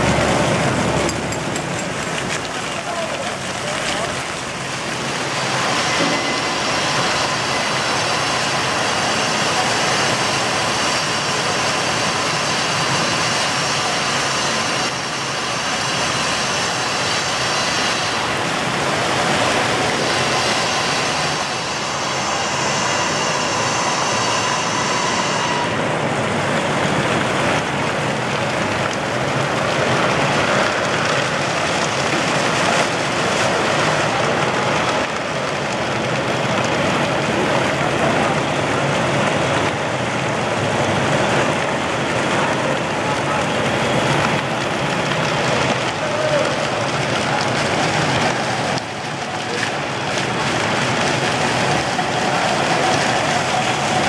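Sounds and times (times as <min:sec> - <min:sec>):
fountain jets splashing: 0:00.0 - 0:54.0.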